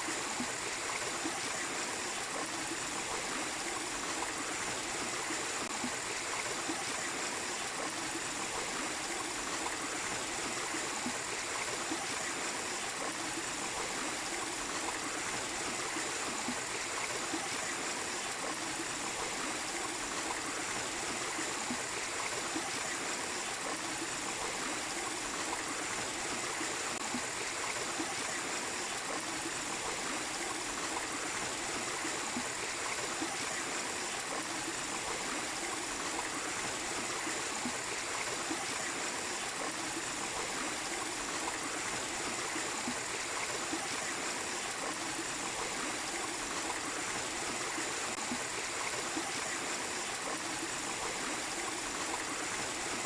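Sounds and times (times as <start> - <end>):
small waterfall splashing: 0.0 - 53.0
stream running: 0.0 - 53.0.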